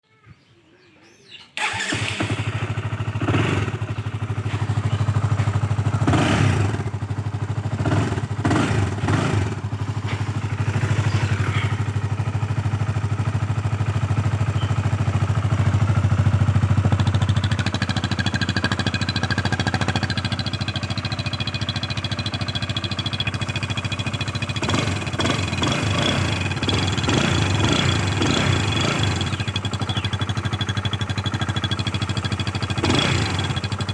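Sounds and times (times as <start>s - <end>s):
motorcycle engine running: 1.6s - 33.9s.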